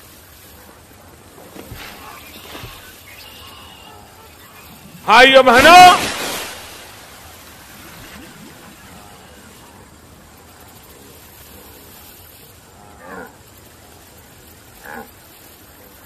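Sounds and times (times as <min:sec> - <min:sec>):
faint animal sounds: 0:00.0 - 0:05.2, 0:07.9 - 0:16.0.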